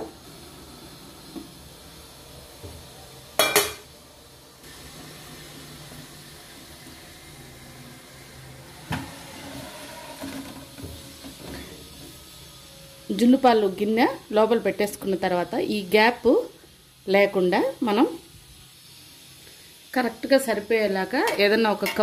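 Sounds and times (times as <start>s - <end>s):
simmering cooker hiss: 0.0s - 22.0s.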